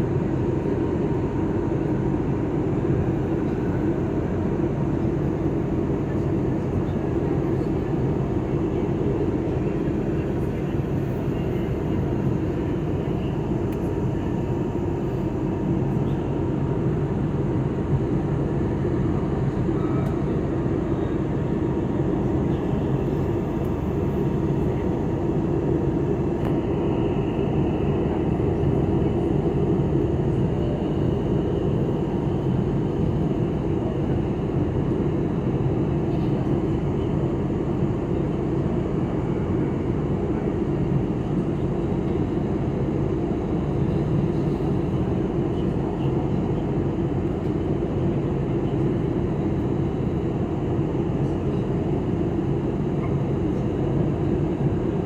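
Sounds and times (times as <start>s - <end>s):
faint steady whine: 0.0s - 55.0s
jet engine drone: 0.0s - 55.0s.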